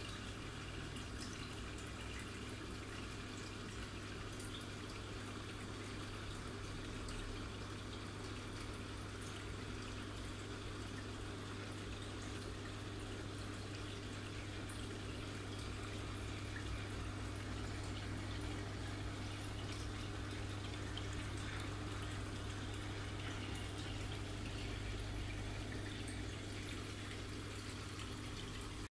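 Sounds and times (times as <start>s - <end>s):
aquarium filter bubbling: 0.0s - 28.9s.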